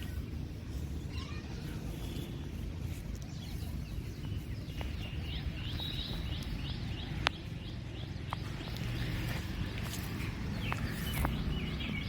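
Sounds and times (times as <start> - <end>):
bird chirping: 0.0 - 12.0
low outdoor rumble: 0.0 - 12.0.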